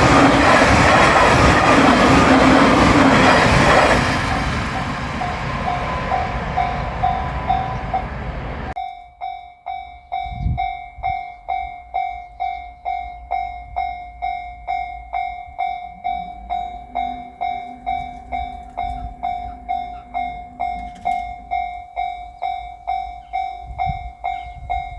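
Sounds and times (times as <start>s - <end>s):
train rushing over level crossing: 0.0s - 8.8s, 10.2s - 24.9s
crossing warning bell ringing: 0.0s - 24.9s.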